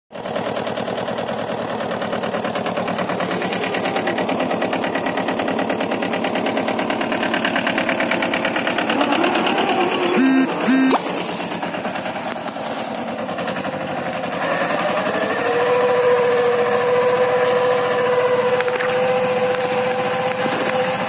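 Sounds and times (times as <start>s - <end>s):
small weeder engine pulsing: 0.1s - 21.0s.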